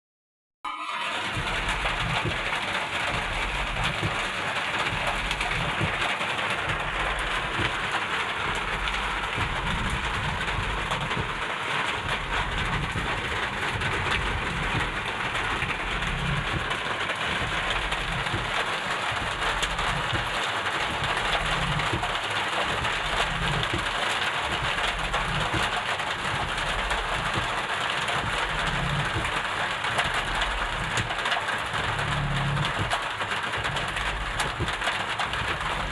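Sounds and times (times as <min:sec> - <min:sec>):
rain falling steadily: 0:01.0 - 0:35.9
uneven low rumble: 0:01.3 - 0:35.9.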